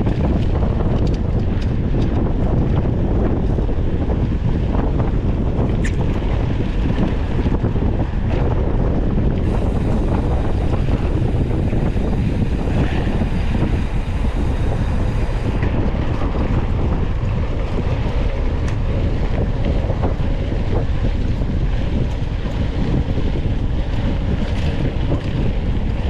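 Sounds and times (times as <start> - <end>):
low rumble: 0.0 - 26.0
wind buffeting microphone: 0.0 - 26.0.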